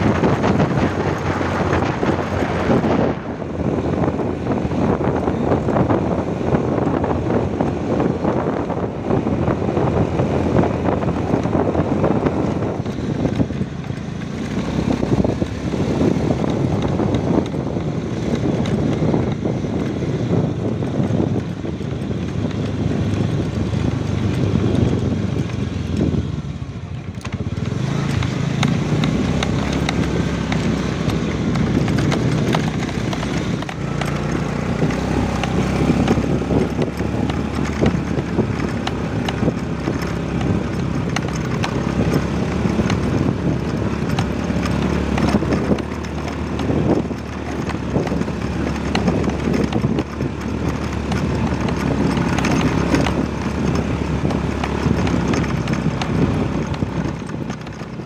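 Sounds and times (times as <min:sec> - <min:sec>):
rattles and knocks from bumps: 0:00.0 - 0:26.1, 0:26.8 - 0:58.0
motorcycle engine running: 0:00.0 - 0:58.0.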